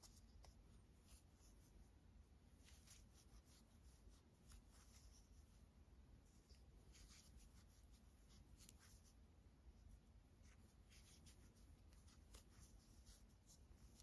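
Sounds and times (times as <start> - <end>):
crochet hook scratching yarn: 0.0 - 1.8, 2.6 - 5.6, 6.3 - 9.2, 10.4 - 14.0.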